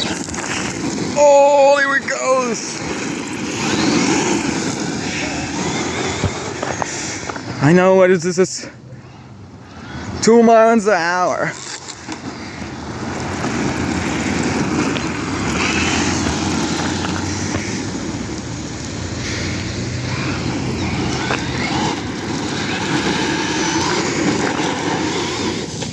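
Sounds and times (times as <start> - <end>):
electric toy truck motor: 0.0 - 7.9, 9.1 - 25.9.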